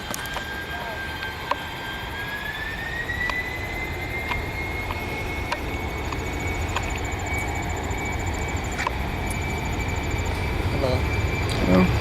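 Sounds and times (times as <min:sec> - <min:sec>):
jet engines spooling up: 0:00.0 - 0:12.0.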